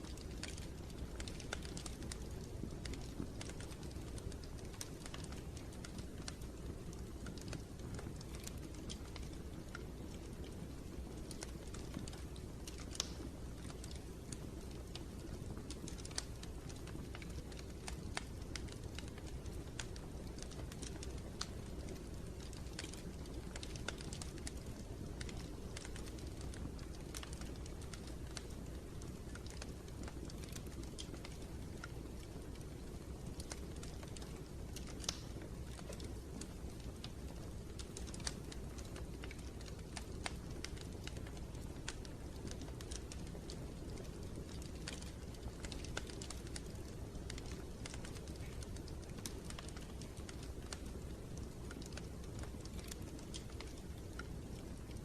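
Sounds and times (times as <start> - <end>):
low rumble of flames: 0.0 - 55.0
wood fire popping and snapping: 0.0 - 55.0.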